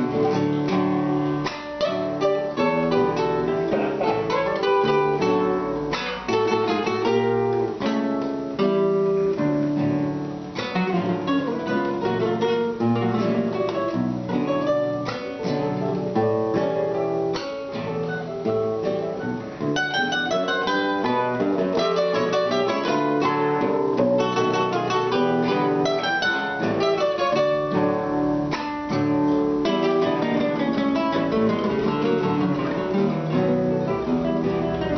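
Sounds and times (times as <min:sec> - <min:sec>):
acoustic guitar trio music: 0:00.0 - 0:34.9.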